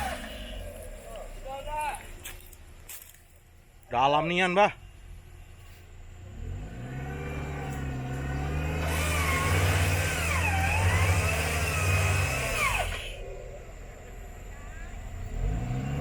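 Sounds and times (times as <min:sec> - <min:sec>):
engine running under load: 0:00.0 - 0:02.5, 0:05.0 - 0:16.0.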